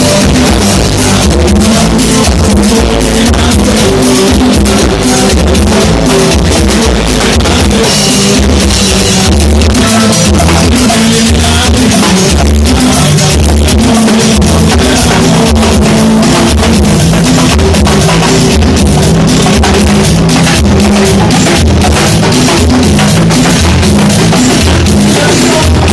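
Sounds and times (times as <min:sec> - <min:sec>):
loud rock music: 0:00.0 - 0:25.9.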